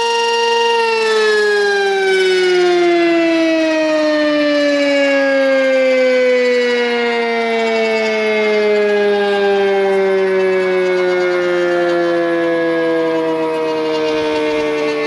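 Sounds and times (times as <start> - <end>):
two-tone siren winding down: 0.0 - 15.0.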